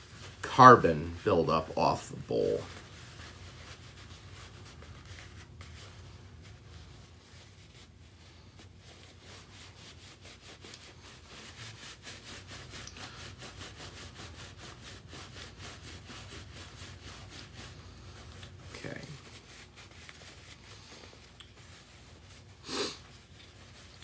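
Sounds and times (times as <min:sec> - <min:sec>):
paper towel rubbing wood: 0:00.0 - 0:24.0.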